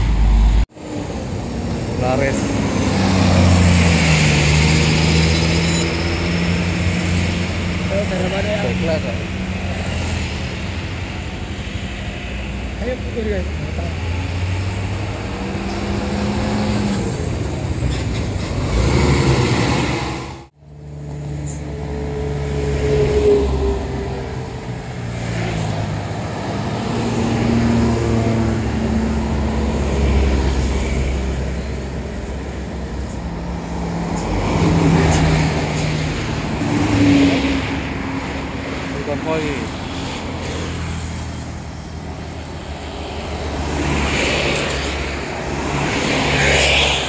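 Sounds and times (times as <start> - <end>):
road traffic engines: 0.0 - 47.0.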